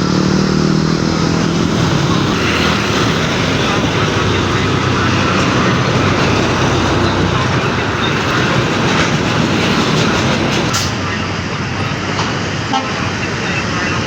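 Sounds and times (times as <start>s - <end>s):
diesel truck engine rumble: 0.0s - 14.0s.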